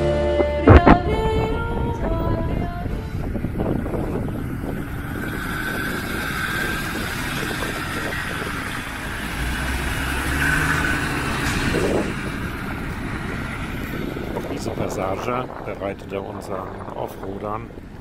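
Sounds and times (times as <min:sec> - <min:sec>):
vehicle driving on gravel: 0:03.2 - 0:18.0.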